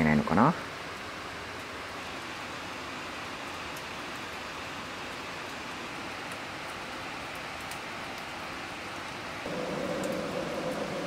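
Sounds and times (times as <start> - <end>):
light rain hissing: 0.0 - 11.0.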